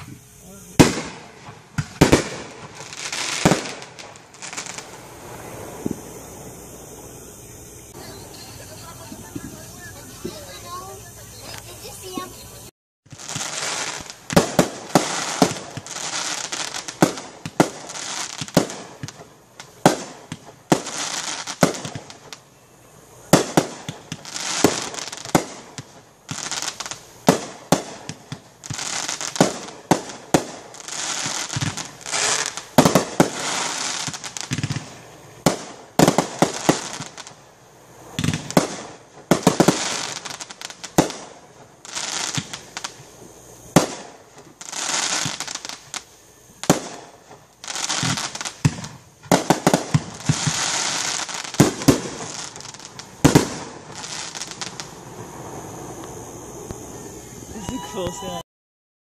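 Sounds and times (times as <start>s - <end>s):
fireworks bursting with sharp bangs: 0.0s - 58.4s
rushing hiss of fireworks: 0.0s - 58.4s.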